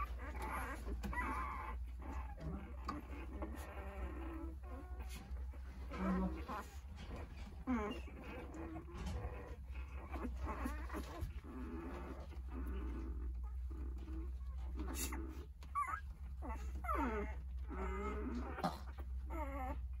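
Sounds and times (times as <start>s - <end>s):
puppies crying: 0.0s - 20.0s.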